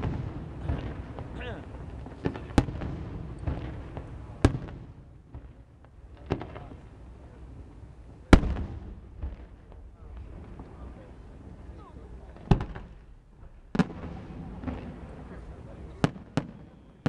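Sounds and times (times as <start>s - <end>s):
faint fireworks pops: 0.0s - 17.0s
fireworks bangs: 0.0s - 17.0s.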